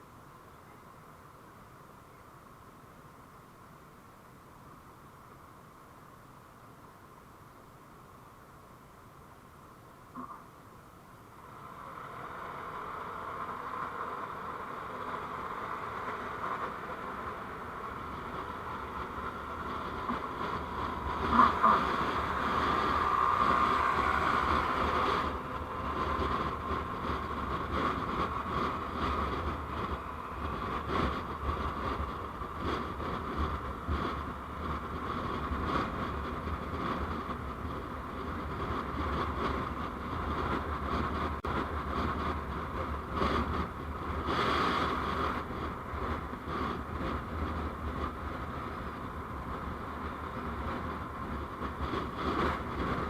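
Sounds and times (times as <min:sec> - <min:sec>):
vehicle road noise: 0:00.0 - 0:53.0.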